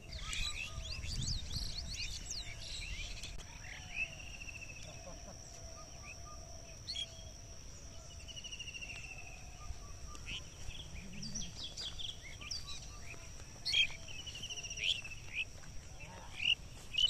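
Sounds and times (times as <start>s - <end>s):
birds chirping: 0.0s - 17.0s
high-pitched insect drone: 0.0s - 17.0s.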